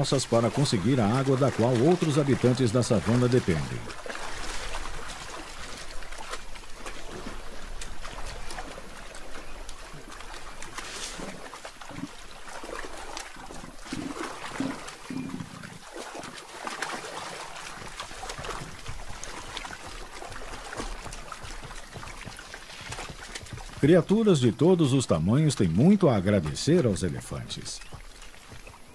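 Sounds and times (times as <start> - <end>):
water trickling: 0.0 - 28.9
wet mud squelching: 0.0 - 28.9.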